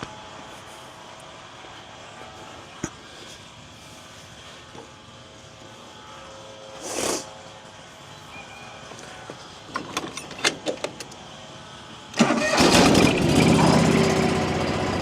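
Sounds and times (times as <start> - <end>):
garden tractor engine running: 0.0 - 15.0.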